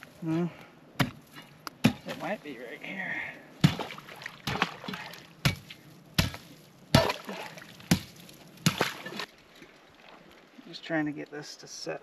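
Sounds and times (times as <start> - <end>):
water trickling and sloshing: 1.2 - 11.4.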